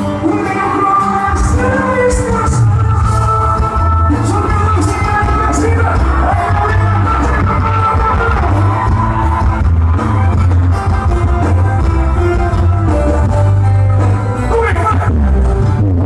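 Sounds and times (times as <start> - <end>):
loud music with singing: 0.0 - 16.0.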